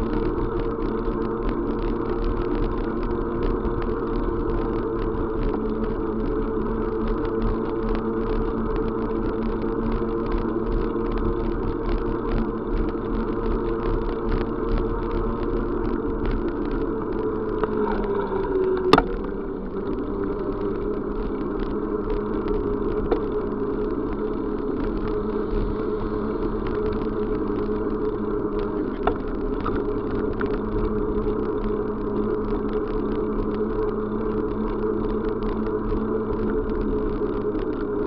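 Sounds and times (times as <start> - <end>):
vehicle engine drone: 0.0 - 38.0.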